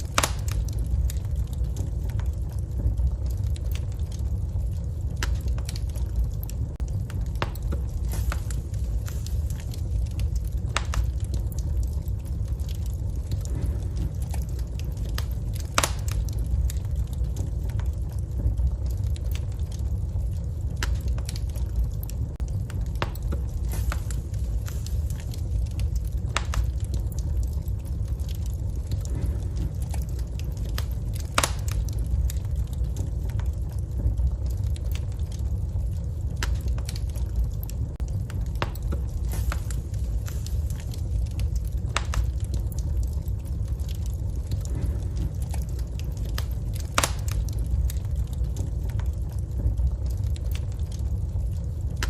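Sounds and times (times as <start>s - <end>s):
fire crackling and popping: 0.0s - 52.0s
fire flames rumbling: 0.0s - 52.0s.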